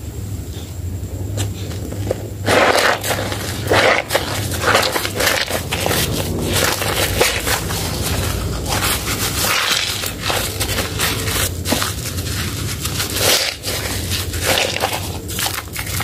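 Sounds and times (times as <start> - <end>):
wet sponge squelching: 1.4 - 16.0.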